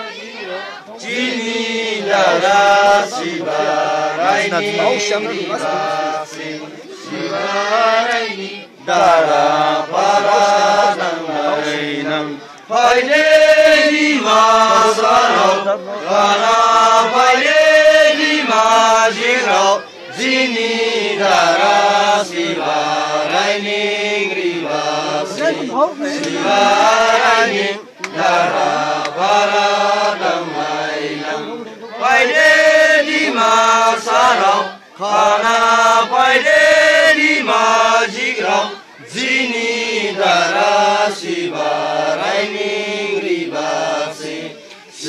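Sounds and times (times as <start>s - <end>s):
men chanting in unison: 0.0s - 45.0s.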